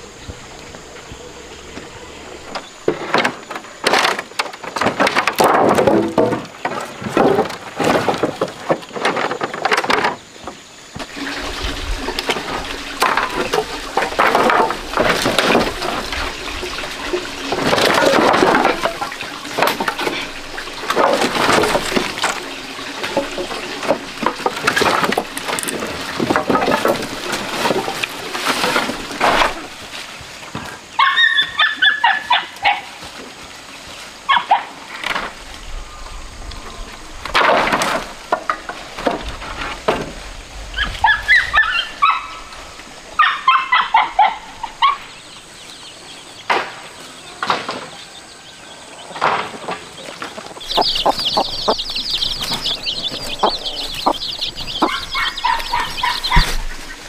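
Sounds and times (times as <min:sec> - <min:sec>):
wooden logs knocking and clattering: 0:02.5 - 0:45.6, 0:46.4 - 0:57.0.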